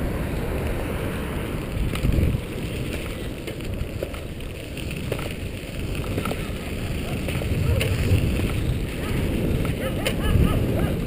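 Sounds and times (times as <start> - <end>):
wheels rolling on dirt trail: 0.0 - 11.0
wind buffeting microphone: 0.0 - 11.0.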